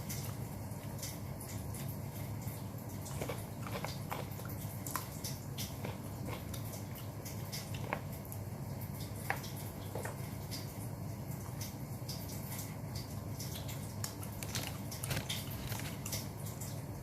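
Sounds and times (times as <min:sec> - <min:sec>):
chewing food: 0:00.0 - 0:16.8.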